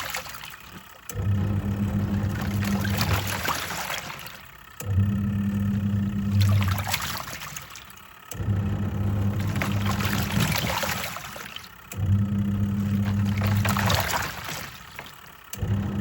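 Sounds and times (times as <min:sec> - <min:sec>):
washing machine motor hum: 0:00.0 - 0:16.0
water sloshing in a tub: 0:00.0 - 0:16.0.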